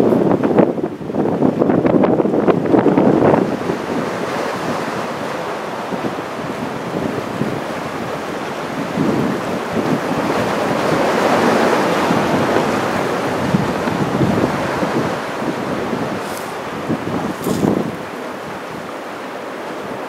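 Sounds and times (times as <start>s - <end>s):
heavy surf breaking: 0.0s - 20.0s
wind buffeting microphone: 0.0s - 20.0s.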